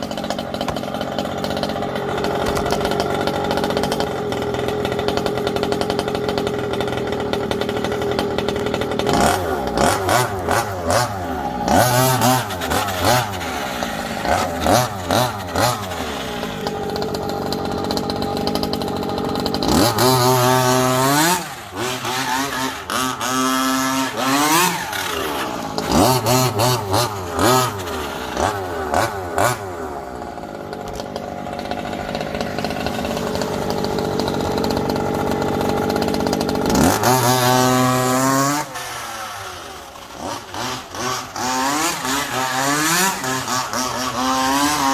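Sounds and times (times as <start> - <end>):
small two-stroke engine revving: 0.0 - 44.9.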